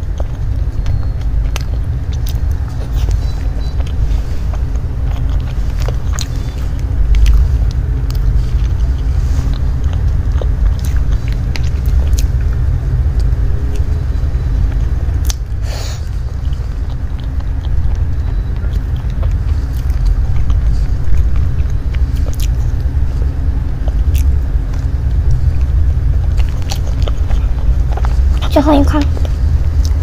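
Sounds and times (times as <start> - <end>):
chewing: 0.0 - 30.0
loud low rumble: 0.0 - 30.0.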